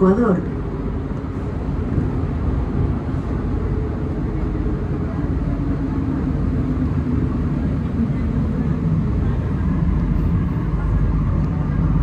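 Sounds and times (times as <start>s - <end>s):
metro car rumble and hum: 0.0s - 12.0s.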